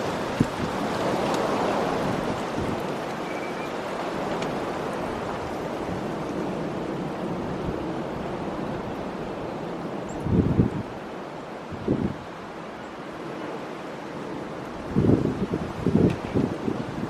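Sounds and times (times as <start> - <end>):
wind blowing against microphone: 0.0 - 12.5, 14.4 - 17.0.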